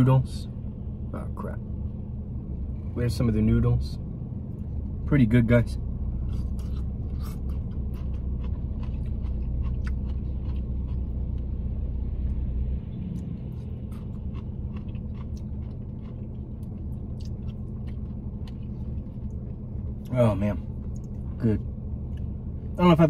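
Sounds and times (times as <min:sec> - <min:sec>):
car idling rumble: 0:00.0 - 0:23.0.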